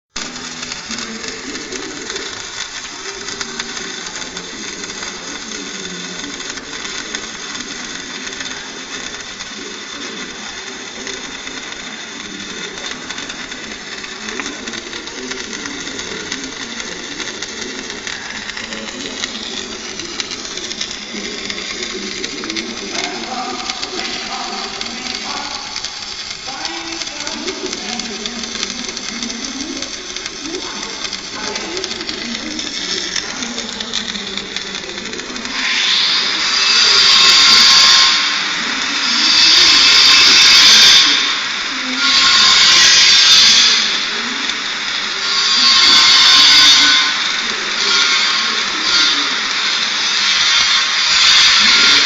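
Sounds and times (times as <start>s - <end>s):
welding arc crackling: 0.1s - 52.0s.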